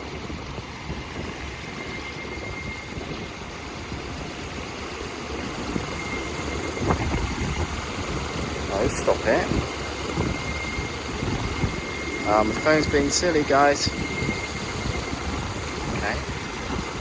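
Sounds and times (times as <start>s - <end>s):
faint high whine: 0.0s - 17.0s
fan blades chopping whoosh: 0.0s - 17.0s.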